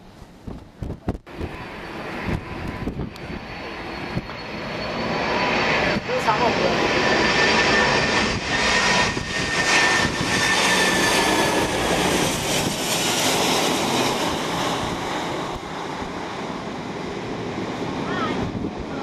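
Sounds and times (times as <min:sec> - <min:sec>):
jet plane passing overhead: 0:00.0 - 0:19.0.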